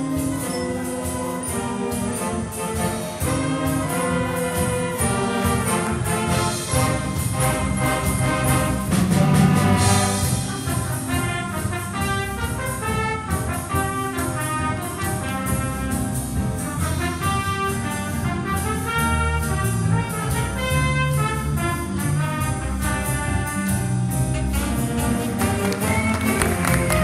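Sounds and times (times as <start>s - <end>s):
piano: 0.0s - 27.0s
rhythm section: 0.0s - 27.0s
saxophones: 0.0s - 27.0s
trombones: 0.0s - 27.0s
trumpets: 0.0s - 27.0s.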